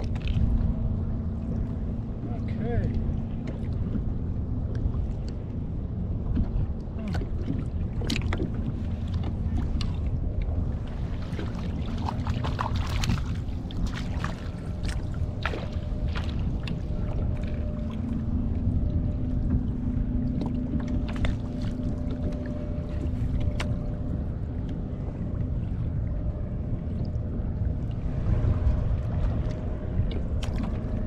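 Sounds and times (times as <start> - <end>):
wind and water rumble: 0.0 - 31.0.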